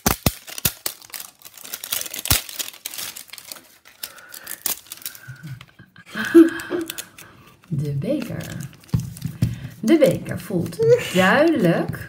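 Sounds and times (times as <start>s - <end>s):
wrapper crinkling and tearing: 0.0s - 12.0s.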